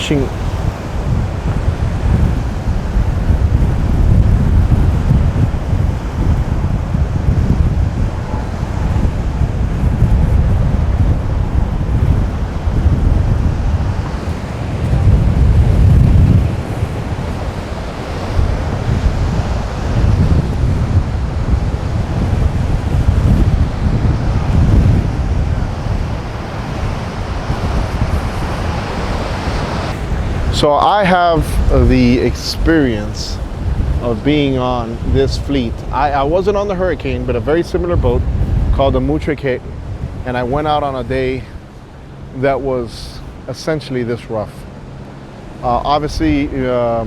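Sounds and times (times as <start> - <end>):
ocean waves breaking: 0.0 - 47.0
wind buffeting microphone: 0.0 - 47.0.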